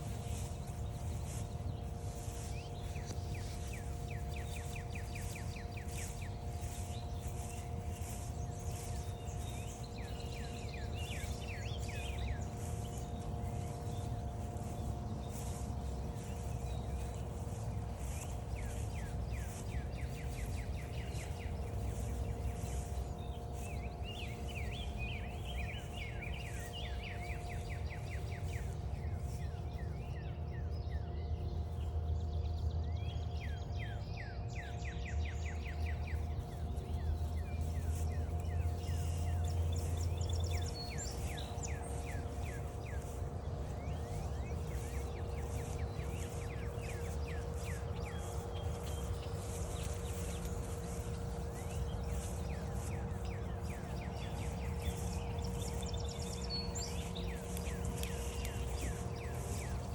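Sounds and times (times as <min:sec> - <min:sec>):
faint hum: 0:00.0 - 0:59.9
songbirds singing and chirping: 0:00.0 - 0:59.9.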